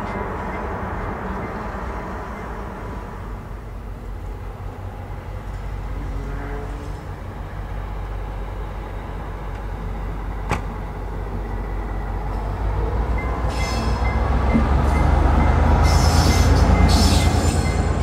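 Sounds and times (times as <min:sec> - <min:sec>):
locomotive engine rumble: 0:00.0 - 0:18.0.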